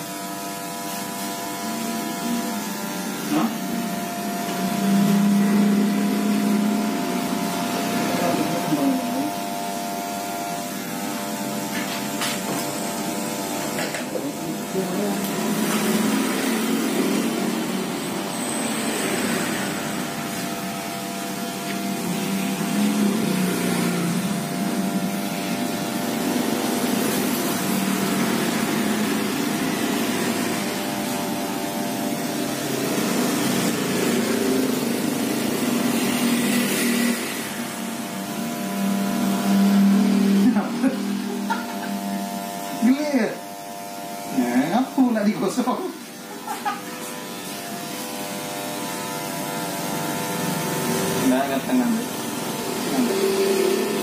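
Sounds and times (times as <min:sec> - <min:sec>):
electric hair clipper buzzing: 0:00.0 - 0:54.0.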